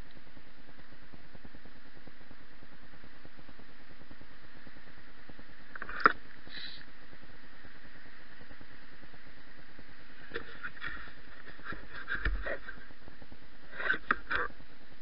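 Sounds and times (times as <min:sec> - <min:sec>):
bicycle ride hiss and hum: 0:00.0 - 0:15.0.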